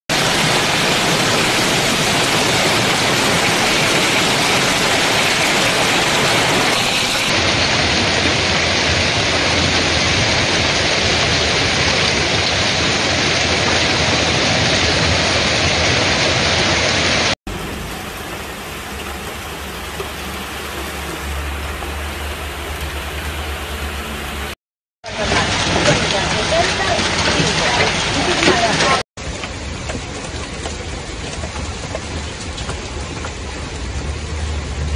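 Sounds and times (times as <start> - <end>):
heavy rain and hail: 0.1 - 34.9.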